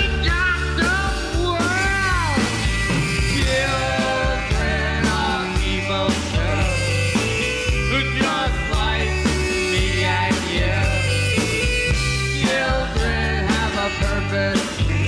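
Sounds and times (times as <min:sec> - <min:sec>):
bending lead melody: 0:00.0 - 0:15.0
rock band instrumental: 0:00.0 - 0:15.0.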